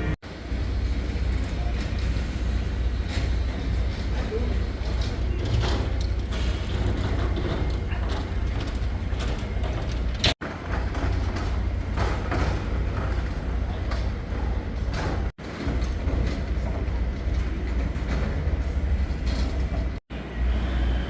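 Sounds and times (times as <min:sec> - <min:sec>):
outdoor low rumble: 0:00.0 - 0:21.0.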